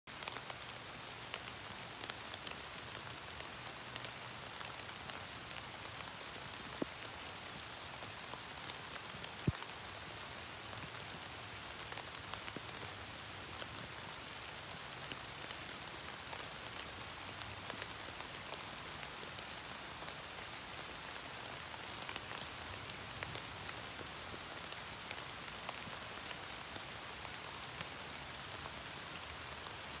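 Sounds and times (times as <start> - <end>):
rain pattering on leaves: 0.1 - 30.0.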